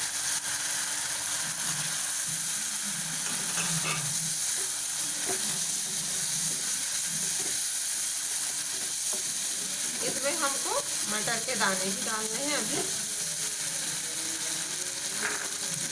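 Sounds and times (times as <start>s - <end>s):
tomatoes sizzling in oil: 0.0s - 15.9s.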